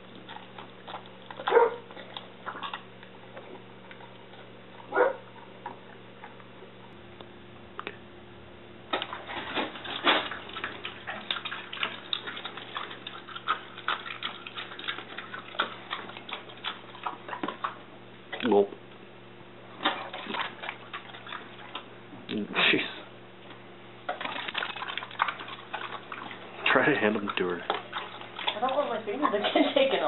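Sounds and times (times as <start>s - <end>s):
dog chewing bone: 0.0s - 6.7s, 8.9s - 18.5s, 19.8s - 22.0s, 24.0s - 30.0s.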